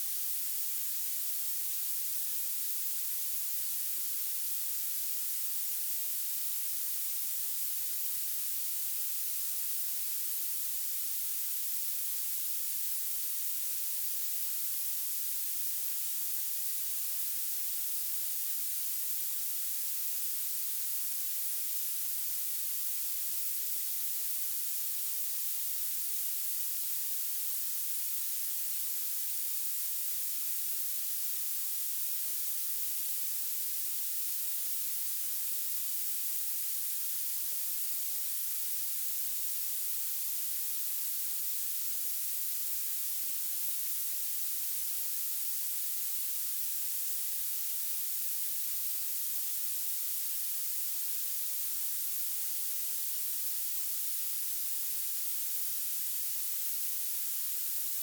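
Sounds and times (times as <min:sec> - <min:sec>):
high-pitched steady hiss: 0:00.0 - 0:58.0.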